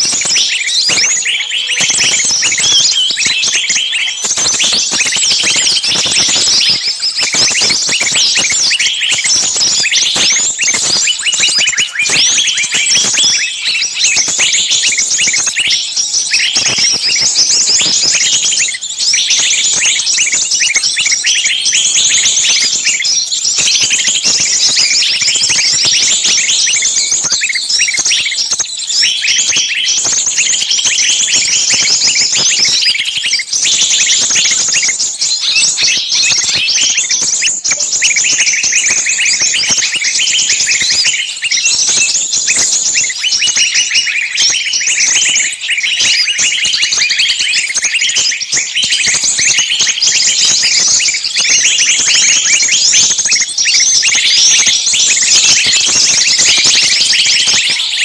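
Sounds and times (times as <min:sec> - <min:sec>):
high-pitched chirping: 0:00.0 - 0:58.0.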